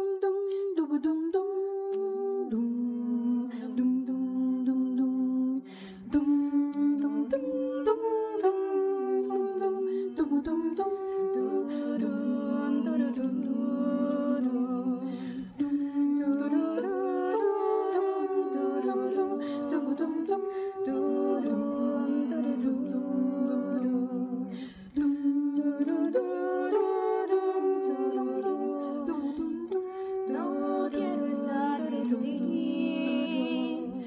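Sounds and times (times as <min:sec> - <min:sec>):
a cappella ensemble humming chords: 0:00.0 - 0:34.0.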